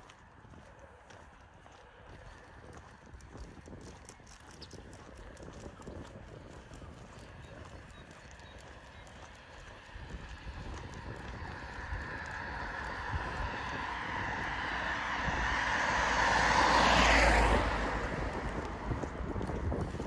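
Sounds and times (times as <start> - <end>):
vehicle passing by: 2.1 - 20.0.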